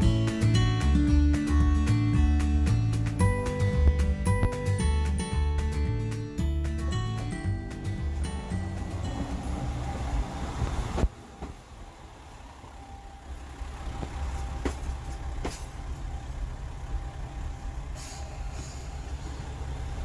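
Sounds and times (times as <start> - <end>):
vehicle rumbling: 0.0 - 20.0.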